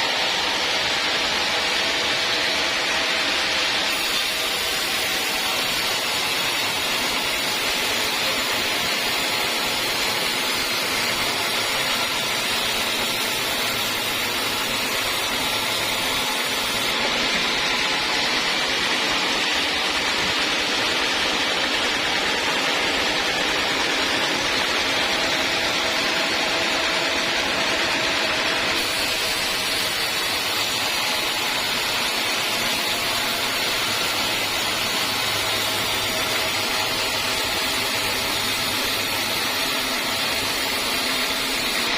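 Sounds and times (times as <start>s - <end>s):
sawmill saw cutting wood: 0.0s - 41.9s.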